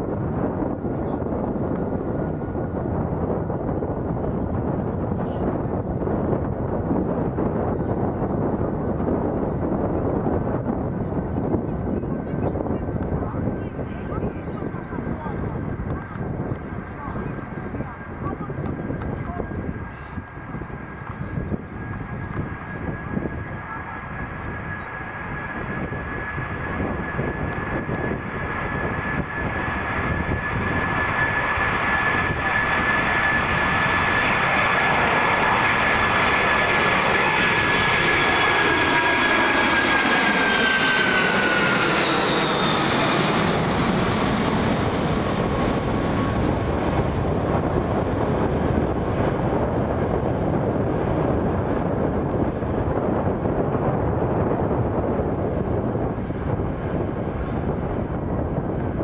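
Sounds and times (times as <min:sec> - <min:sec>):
jet engine roar: 0:00.0 - 0:59.0
jet engine whine: 0:00.0 - 0:59.0.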